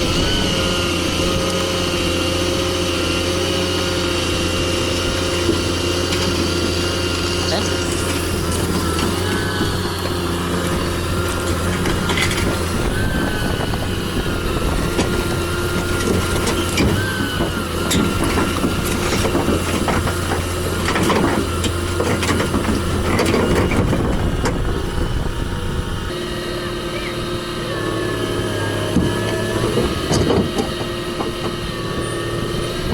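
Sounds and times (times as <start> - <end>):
heavy machinery engine running: 0.0 - 32.9.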